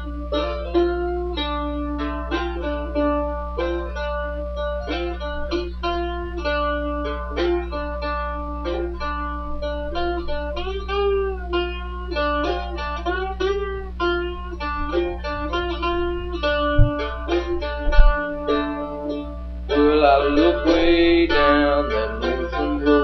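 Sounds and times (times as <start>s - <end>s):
slide guitar blues riff: 0.0s - 23.0s
steady low hum: 0.0s - 23.0s.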